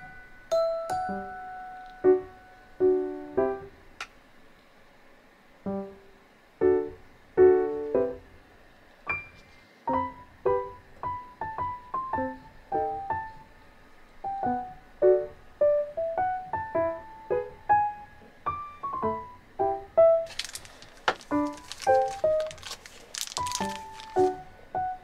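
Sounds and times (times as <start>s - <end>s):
gentle piano melody: 0.0s - 3.9s, 5.6s - 8.5s, 9.1s - 25.0s.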